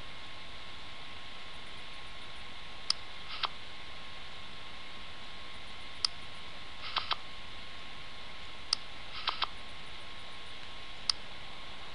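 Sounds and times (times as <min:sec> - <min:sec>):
faint hum: 0:00.0 - 0:11.9.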